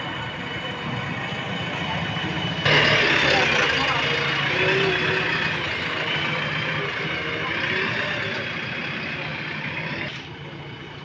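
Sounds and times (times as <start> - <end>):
diesel engine running: 0.0 - 11.0
wavering engine whine: 0.0 - 11.0.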